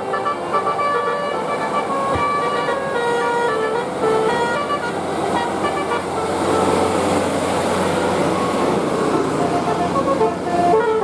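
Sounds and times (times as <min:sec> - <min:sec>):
bus air horn playing a tune: 0:00.0 - 0:07.2, 0:09.4 - 0:11.0
vehicle noise: 0:00.0 - 0:11.0.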